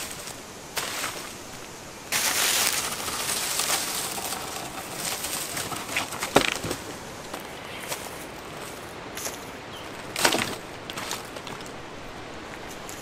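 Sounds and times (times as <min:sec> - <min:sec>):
dry branches and leaves rustling: 0:00.0 - 0:13.0.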